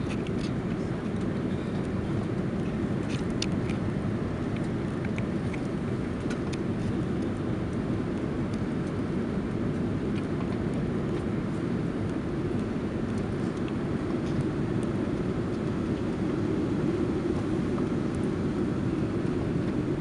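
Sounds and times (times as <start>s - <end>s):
airplane cabin roar: 0.0s - 20.0s.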